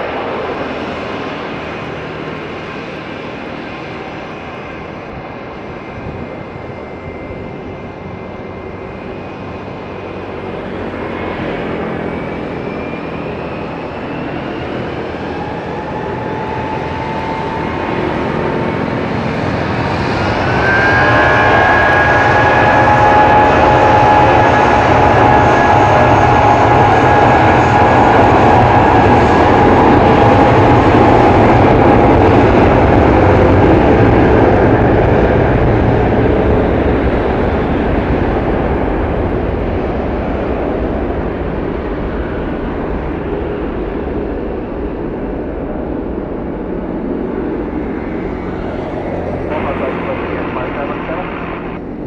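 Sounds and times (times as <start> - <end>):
jet engines at take-off: 0.0 - 52.0.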